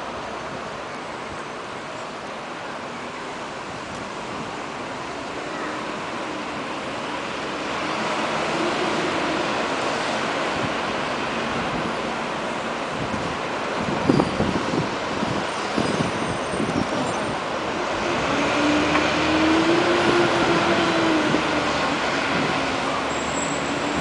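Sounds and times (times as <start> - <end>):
bus engine hum: 0.0 - 24.0
cars passing: 3.3 - 24.0.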